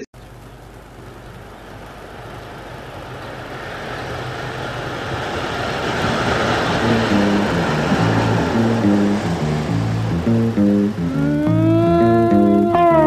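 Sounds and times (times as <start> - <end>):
train rumble approaching: 0.3 - 13.0.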